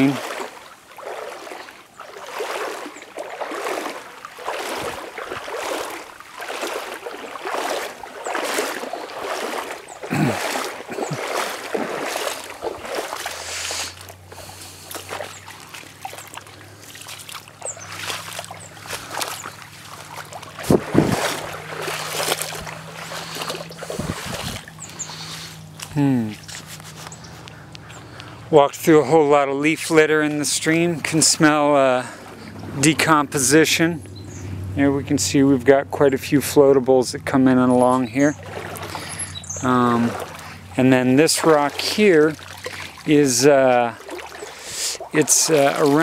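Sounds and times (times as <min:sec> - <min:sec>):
footsteps wading through water: 0:00.0 - 0:46.0.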